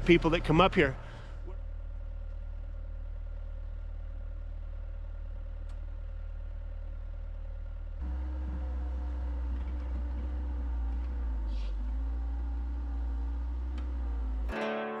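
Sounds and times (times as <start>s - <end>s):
skid steer engine running: 0.0s - 14.6s
higher steady engine note: 0.0s - 14.7s.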